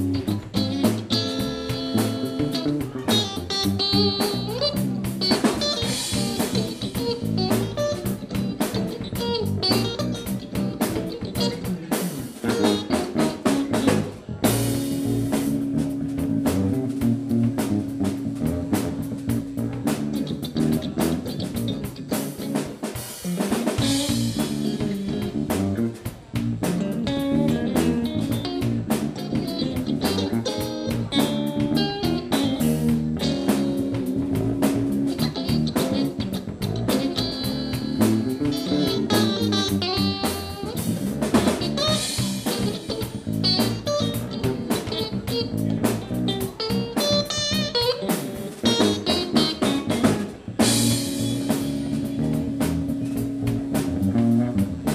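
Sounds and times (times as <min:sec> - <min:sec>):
drum kit: 0:00.0 - 0:54.9
electric bass: 0:00.0 - 0:54.9
electric guitar: 0:00.0 - 0:54.9.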